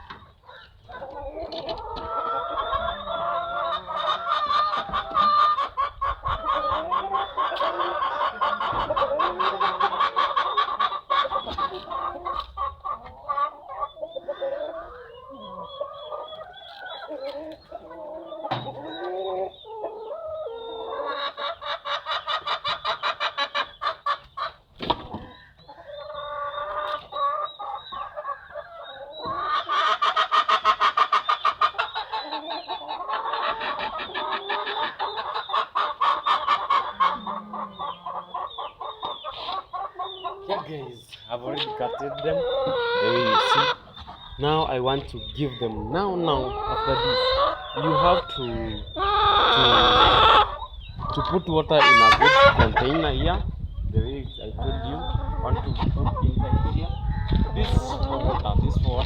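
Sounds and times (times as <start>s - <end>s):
hens clucking: 0.0s - 59.0s.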